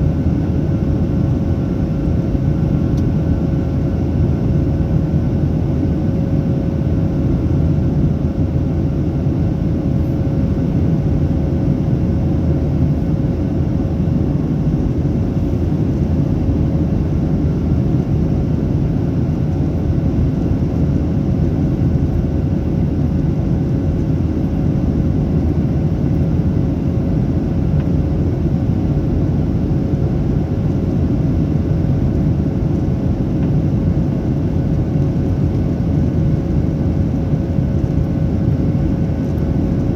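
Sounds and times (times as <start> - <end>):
jet engine cabin rumble and whine: 0.0 - 39.9.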